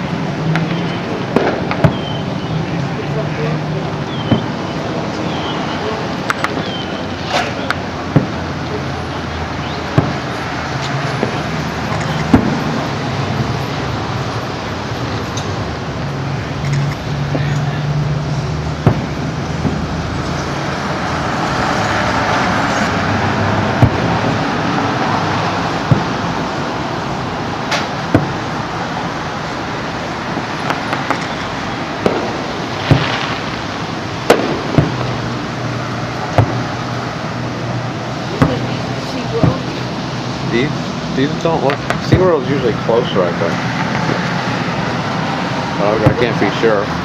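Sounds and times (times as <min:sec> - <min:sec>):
fireworks bangs: 0:00.0 - 0:47.0
noisy background: 0:00.0 - 0:47.0
traffic-like rumble: 0:00.0 - 0:47.0.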